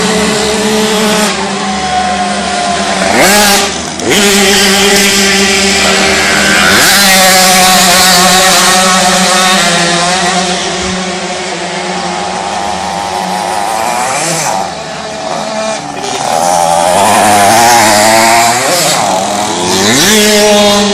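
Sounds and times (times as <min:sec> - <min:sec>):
moped engines buzzing: 0:00.0 - 0:20.9.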